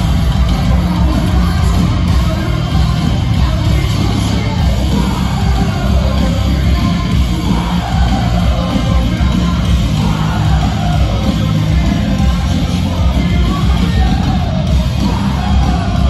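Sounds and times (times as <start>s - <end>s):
hard rock band playing live: 0.0s - 16.0s.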